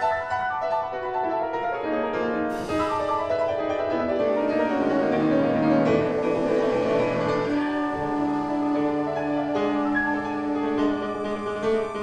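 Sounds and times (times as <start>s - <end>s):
grand piano classical piece: 0.0s - 12.0s.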